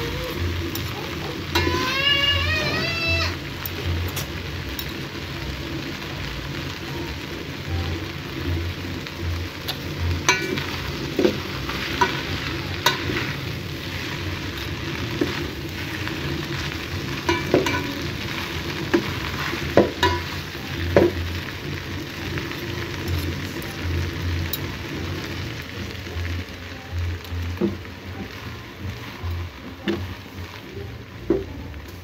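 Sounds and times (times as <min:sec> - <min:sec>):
noodles sizzling in oil: 0:00.0 - 0:32.0.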